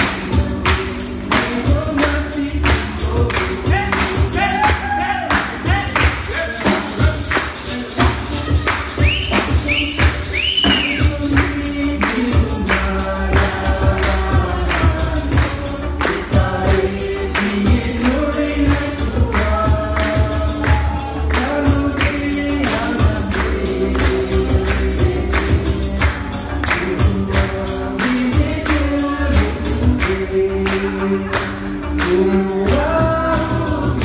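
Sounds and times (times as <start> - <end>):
fast percussion beat: 0.0 - 34.0
person singing: 0.0 - 34.0.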